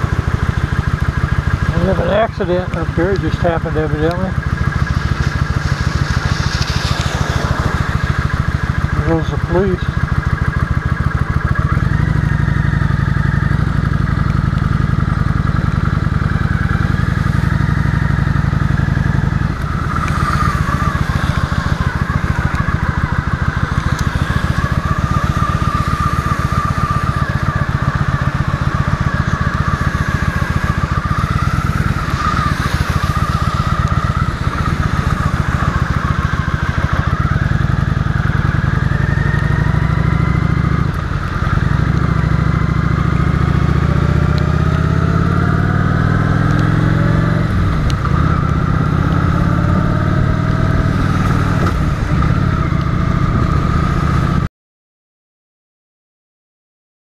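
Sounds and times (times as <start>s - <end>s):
motorcycle engine accelerating: 0.0s - 54.5s.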